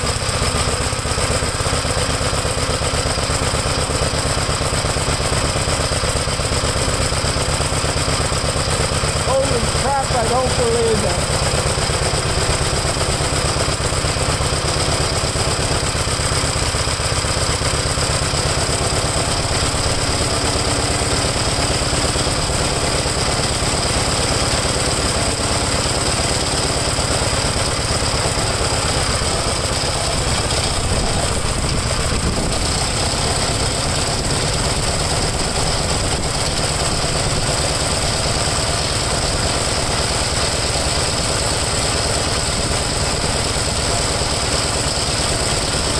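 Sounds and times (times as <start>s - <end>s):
single-cylinder engine idling: 0.0s - 45.9s.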